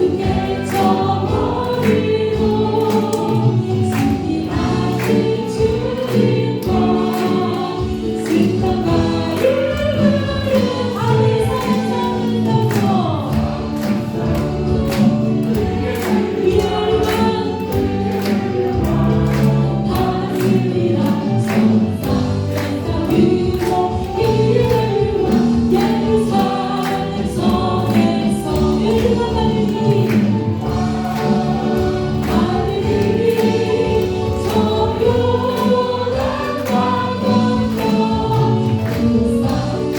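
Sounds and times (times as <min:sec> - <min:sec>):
band accompaniment: 0:00.0 - 0:39.9
congregation singing in chorus: 0:00.0 - 0:39.9
steady drum beat: 0:00.0 - 0:39.9.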